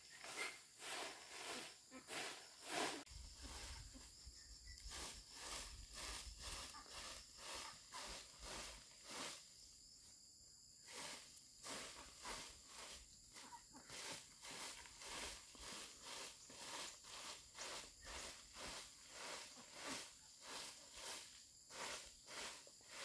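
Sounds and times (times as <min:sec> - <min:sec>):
faint insect buzz: 0:00.0 - 0:23.0.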